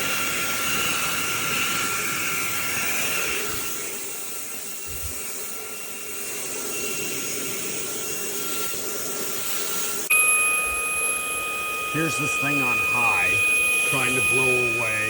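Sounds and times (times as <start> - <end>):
cordless vacuum whining: 0.0 - 15.0.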